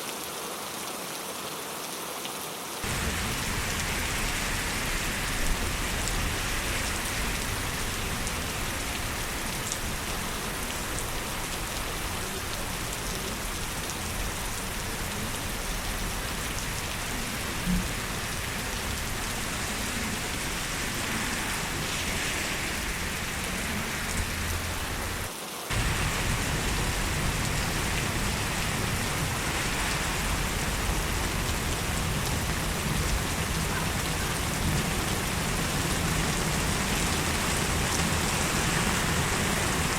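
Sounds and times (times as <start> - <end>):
heavy rain pattering: 2.8 - 39.9.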